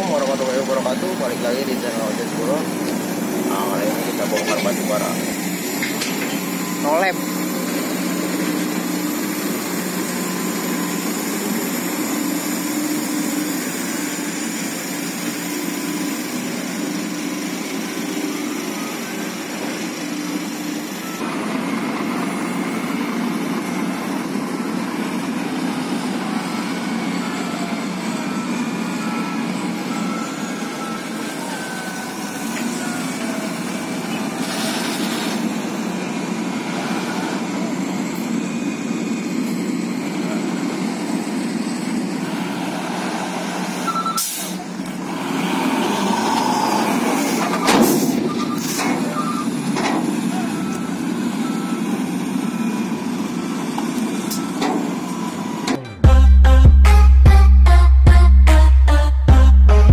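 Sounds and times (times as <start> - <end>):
heavy diesel truck engines running: 0.0 - 59.9.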